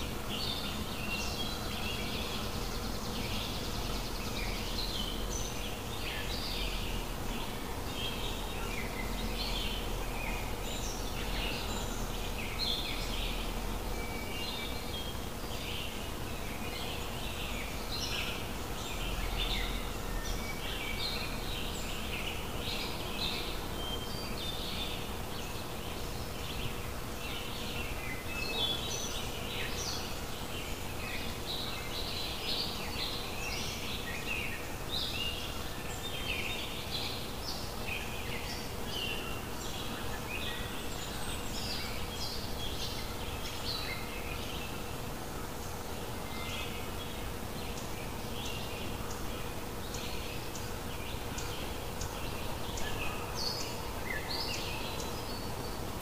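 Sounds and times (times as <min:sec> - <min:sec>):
faint steady hum: 0:00.0 - 0:56.0
small birds chirping: 0:00.0 - 0:56.0.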